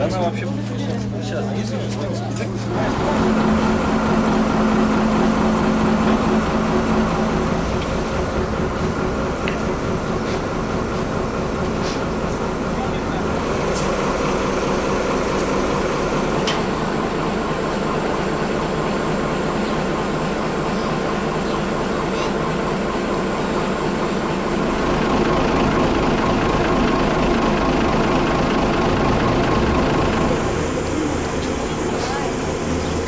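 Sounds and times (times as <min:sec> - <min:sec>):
crane engine running: 0:00.0 - 0:33.0.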